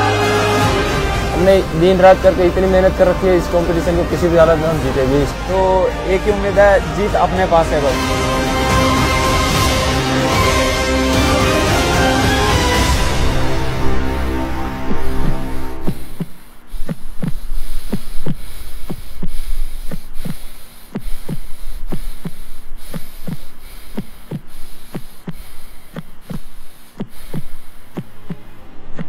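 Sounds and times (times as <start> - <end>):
faint low drone: 0.0 - 29.0.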